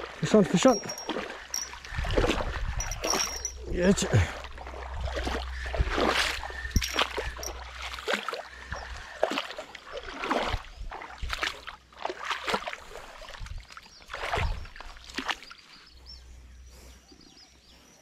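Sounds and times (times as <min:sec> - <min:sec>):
splashing in shallow water: 0:00.0 - 0:15.9.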